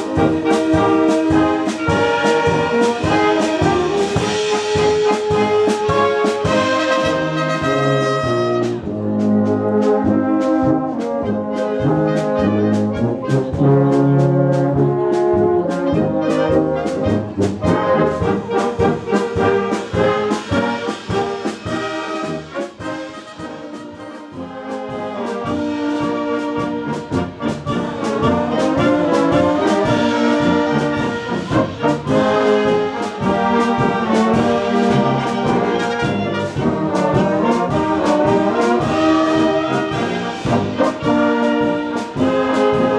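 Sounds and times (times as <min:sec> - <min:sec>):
brass band playing polka: 0:00.0 - 0:42.9.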